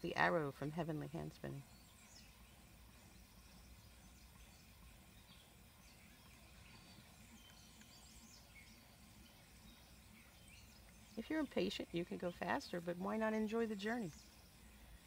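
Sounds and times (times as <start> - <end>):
distant bird chirps: 0.0 - 15.0
low steady hum: 0.0 - 15.0.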